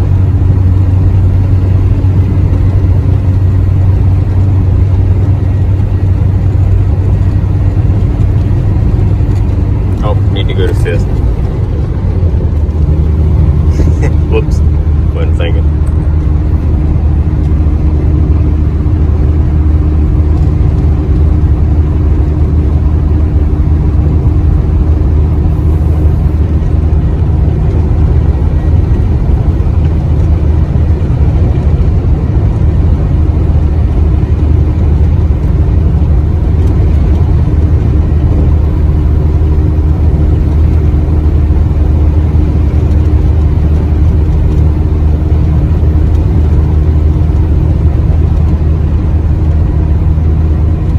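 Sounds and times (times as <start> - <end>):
truck engine drone: 0.0 - 50.9.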